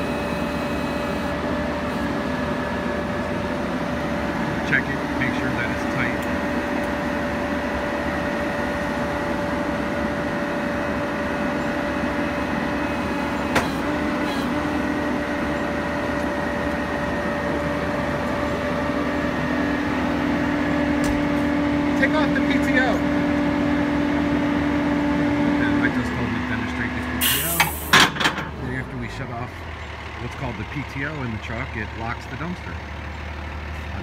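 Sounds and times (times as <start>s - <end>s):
steady mechanical whine: 0.0s - 32.7s
diesel engine idling: 0.0s - 34.0s.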